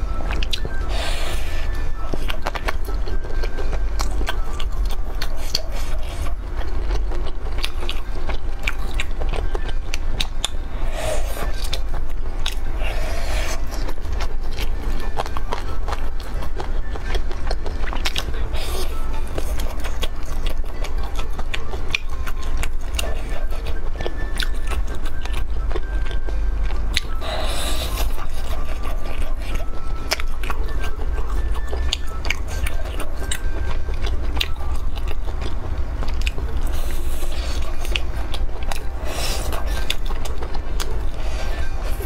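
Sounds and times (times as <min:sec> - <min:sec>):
biting and chewing crunchy food: 0:00.0 - 0:42.0.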